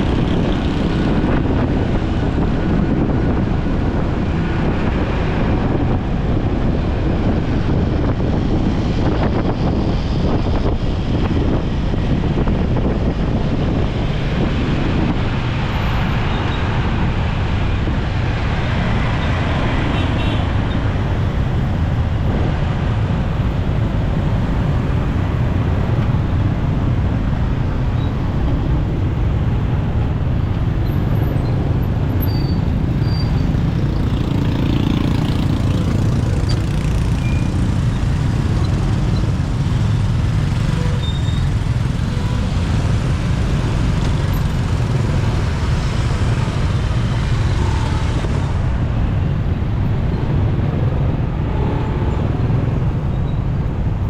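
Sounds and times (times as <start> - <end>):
road and wind noise: 0.0 - 54.0
surrounding traffic: 0.0 - 54.0.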